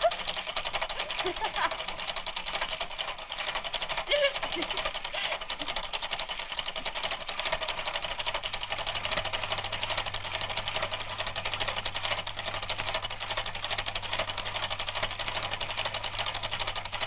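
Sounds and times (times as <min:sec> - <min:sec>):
film projector clattering: 0:00.0 - 0:17.0.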